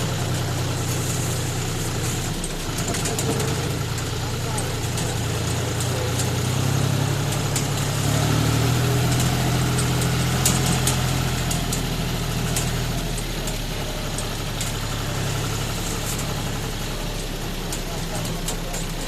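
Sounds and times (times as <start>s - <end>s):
sharp clicks and rattles: 0.0s - 19.0s
tractor diesel engine running: 0.0s - 19.0s.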